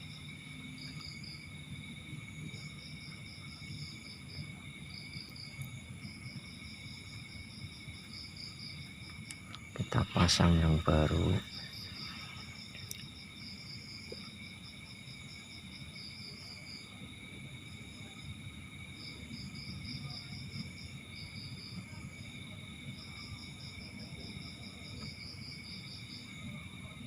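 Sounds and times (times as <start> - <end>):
cricket chirping: 0.0 - 27.0
faint high-pitched whine: 0.0 - 27.0.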